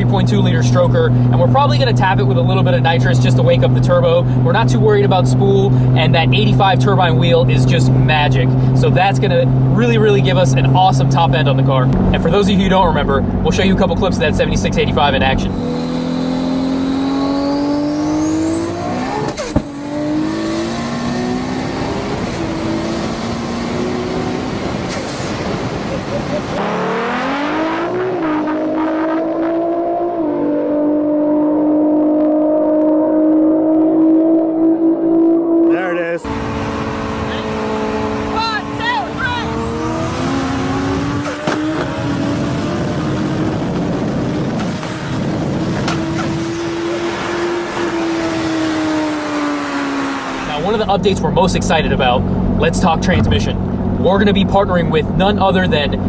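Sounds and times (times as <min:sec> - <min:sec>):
car engine revving at full throttle: 0:00.0 - 0:56.0.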